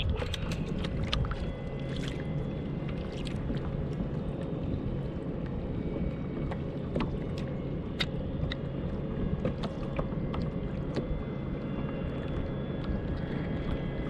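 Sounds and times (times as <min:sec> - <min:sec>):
water noise: 0:00.0 - 0:14.0
wind: 0:00.0 - 0:14.0.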